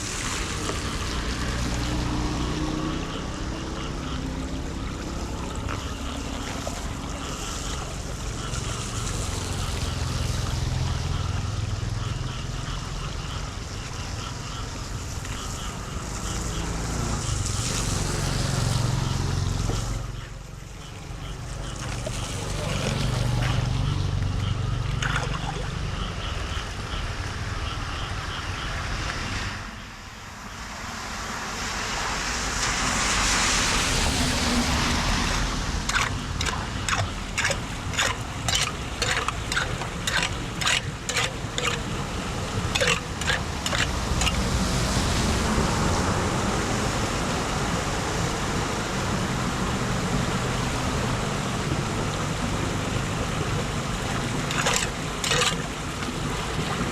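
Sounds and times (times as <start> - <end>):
floodwater running: 0.0 - 11.9, 12.5 - 26.0, 30.3 - 56.9.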